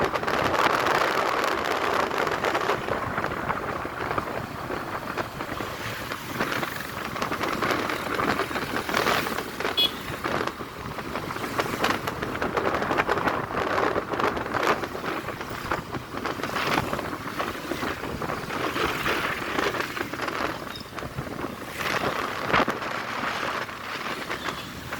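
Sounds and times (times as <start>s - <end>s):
road noise: 0.0s - 24.9s
wind rushing over microphone: 0.0s - 24.9s.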